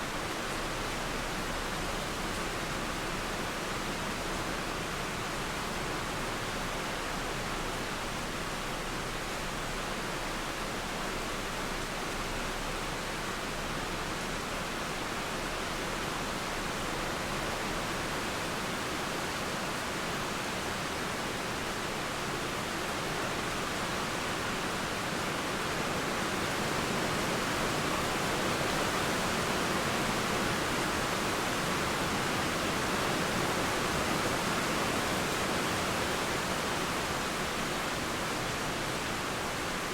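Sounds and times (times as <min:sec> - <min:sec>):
river flowing: 0:00.0 - 0:39.9
steady rain falling: 0:00.0 - 0:39.9.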